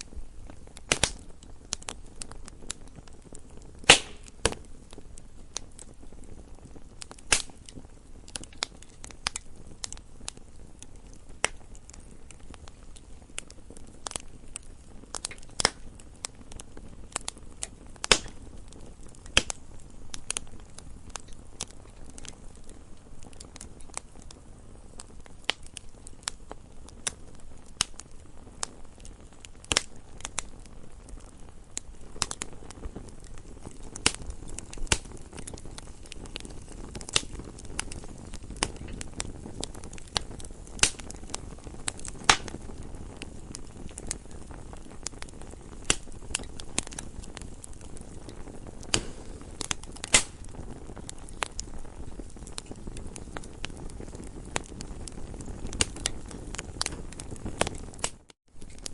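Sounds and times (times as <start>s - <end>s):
burning wood crackling and popping: 0.0s - 58.9s
campfire flames rumbling: 0.0s - 58.9s.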